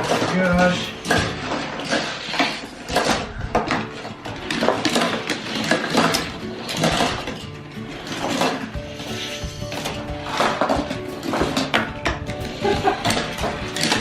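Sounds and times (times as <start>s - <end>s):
toy cars clattering together: 0.0s - 14.0s.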